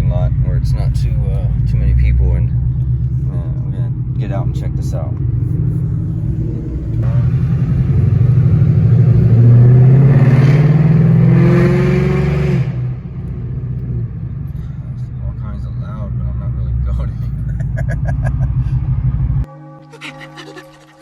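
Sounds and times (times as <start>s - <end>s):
car engine revving through loud exhaust: 0.0s - 19.5s.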